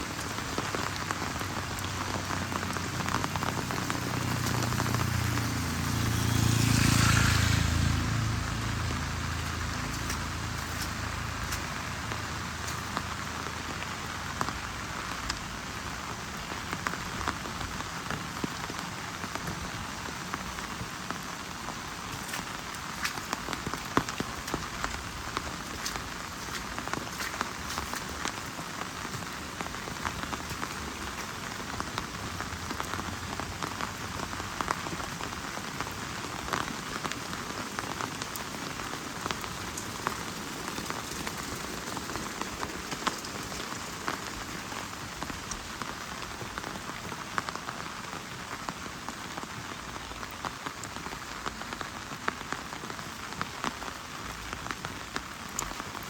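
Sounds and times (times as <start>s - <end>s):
heavy rain falling: 0.0s - 56.0s
raindrop ticks: 0.0s - 56.0s.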